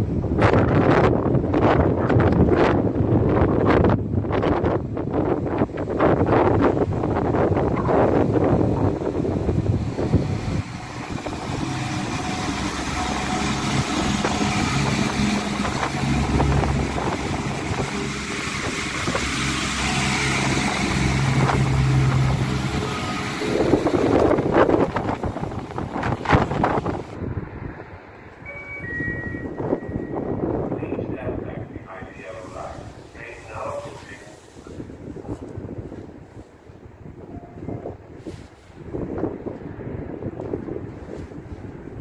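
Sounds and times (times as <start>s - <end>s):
diesel train engine drone: 0.0s - 41.0s
train wheel and rail noise: 0.0s - 41.9s.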